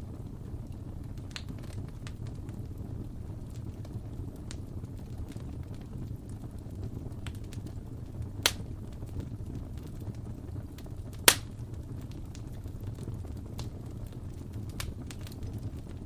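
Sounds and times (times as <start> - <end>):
fire crackles: 0.0 - 16.0
loud fire pops: 0.0 - 16.0
wood fire rumbling: 0.0 - 16.0.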